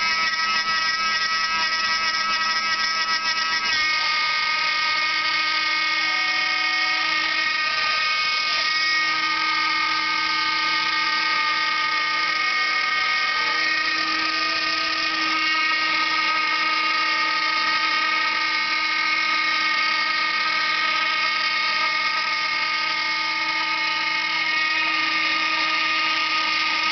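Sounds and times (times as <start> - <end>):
router spindle whining: 0.0 - 26.9.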